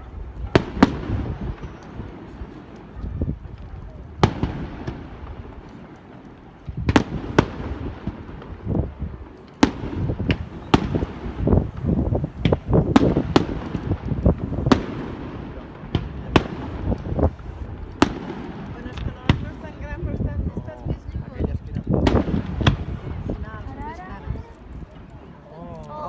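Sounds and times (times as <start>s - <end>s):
fireworks bangs and crackles: 0.0s - 25.3s.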